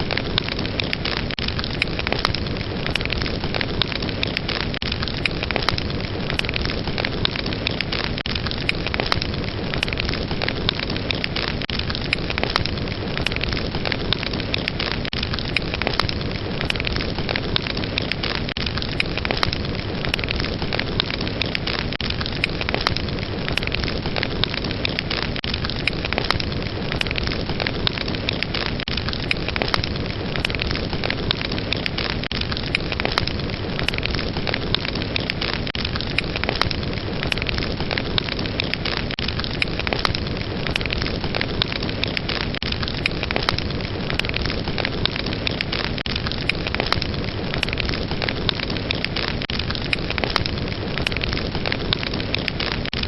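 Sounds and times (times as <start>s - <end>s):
fire burning with crackles: 0.0s - 53.0s.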